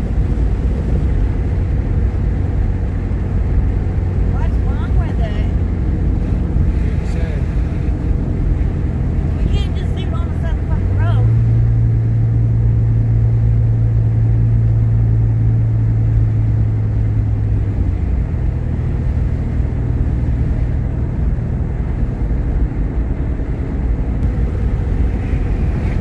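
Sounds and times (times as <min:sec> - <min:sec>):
car engine and road drone: 0:00.0 - 0:26.0
low hum: 0:00.0 - 0:26.0.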